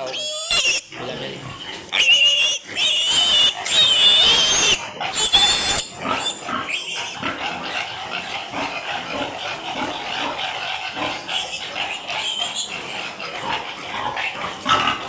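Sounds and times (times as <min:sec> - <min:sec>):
piglets squealing: 0:00.0 - 0:15.0
pigs grunting noise: 0:00.0 - 0:15.0.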